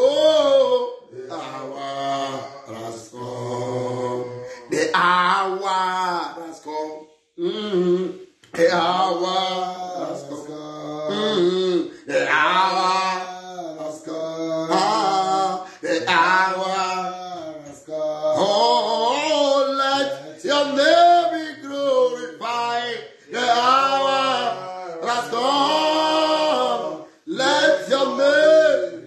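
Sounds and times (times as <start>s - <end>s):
man singing unaccompanied: 0.0s - 29.0s.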